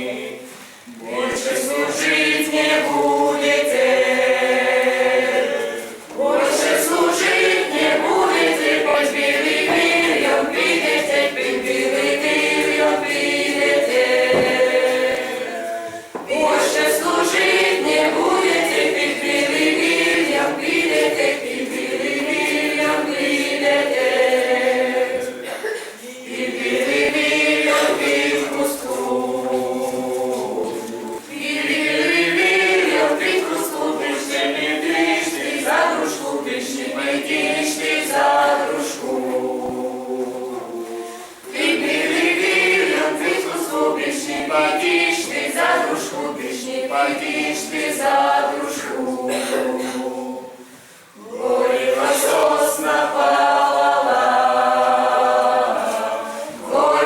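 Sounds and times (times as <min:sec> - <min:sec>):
group singing unaccompanied: 0:00.0 - 0:57.0.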